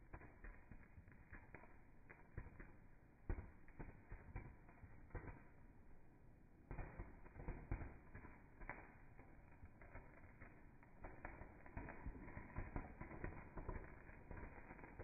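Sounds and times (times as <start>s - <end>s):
firework crackling and popping: 0.0s - 15.0s.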